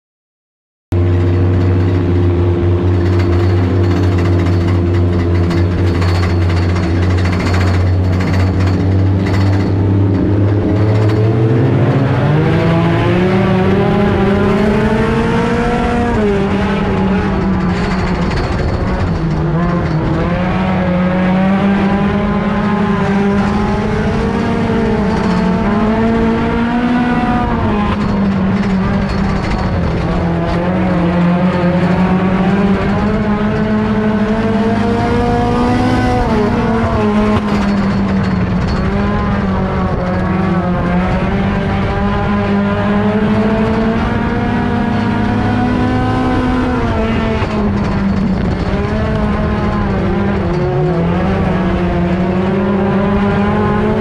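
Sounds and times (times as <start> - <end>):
race car engine revving: 1.0 - 54.0.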